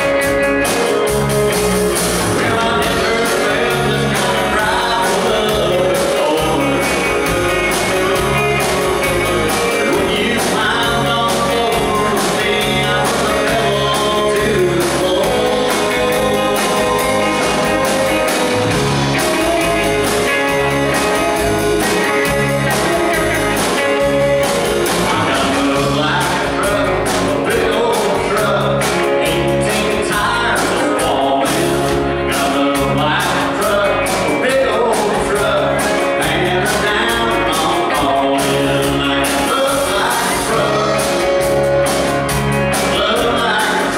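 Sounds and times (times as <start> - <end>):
drum kit beat with cymbals: 0.0 - 43.9
electric guitars: 0.0 - 43.9
man singing: 1.9 - 41.7, 42.5 - 43.9.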